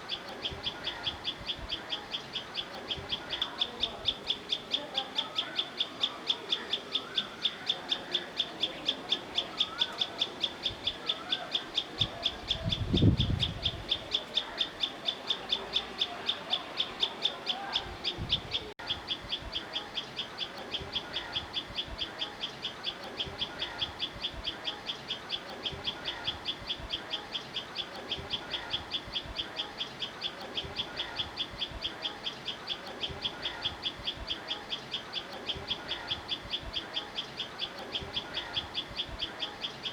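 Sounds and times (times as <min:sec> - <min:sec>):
soft bird calls: 0:00.0 - 0:39.9.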